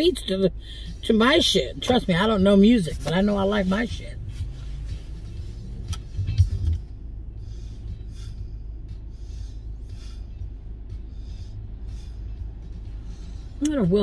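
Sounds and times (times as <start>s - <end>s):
car road rumble: 0.0s - 14.0s
faint music on car stereo: 0.0s - 14.0s.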